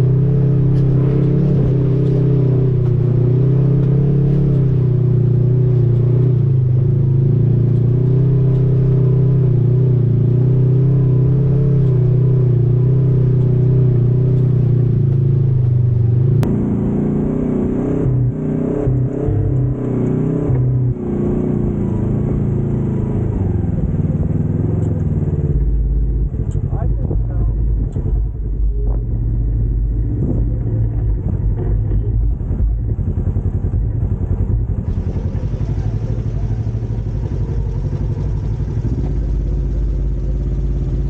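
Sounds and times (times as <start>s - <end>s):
utility vehicle engine running: 0.0s - 41.0s.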